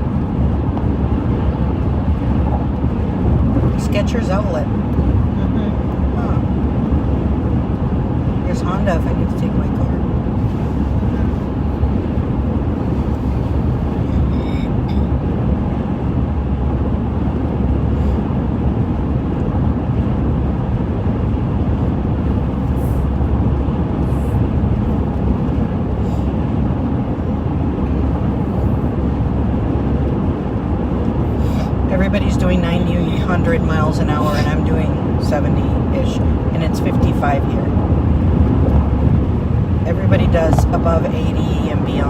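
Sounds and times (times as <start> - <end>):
car road and tyre noise: 0.0 - 42.0.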